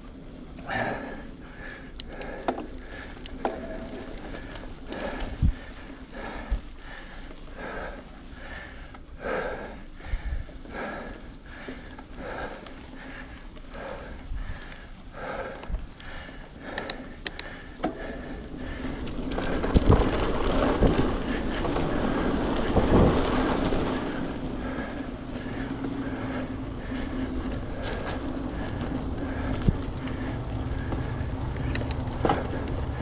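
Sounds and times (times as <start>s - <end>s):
bike tyres on dirt trail: 0.0s - 33.0s
bike knocking and rattling: 0.6s - 33.0s.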